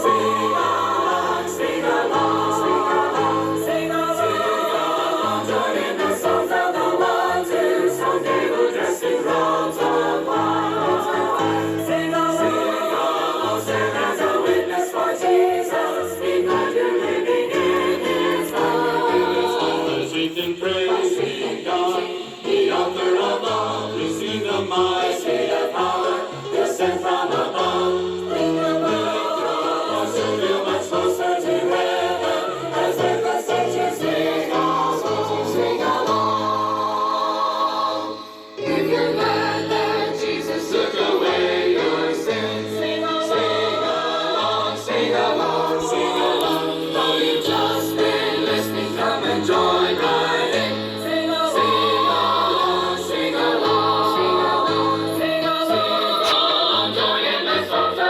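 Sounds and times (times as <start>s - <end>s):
choir singing gospel: 0.0s - 58.0s.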